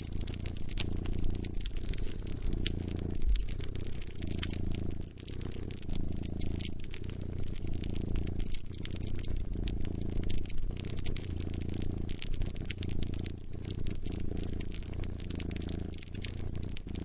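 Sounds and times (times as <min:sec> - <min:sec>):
cat purring: 0:00.0 - 0:17.0
fire crackling and popping: 0:00.0 - 0:17.0.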